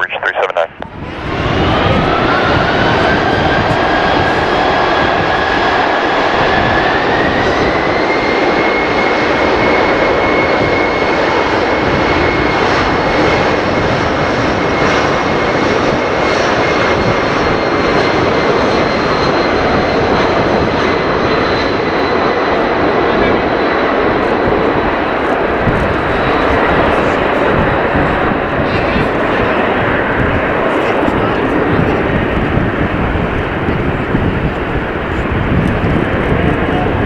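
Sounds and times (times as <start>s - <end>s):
jet engines roaring with whine: 0.0s - 37.0s.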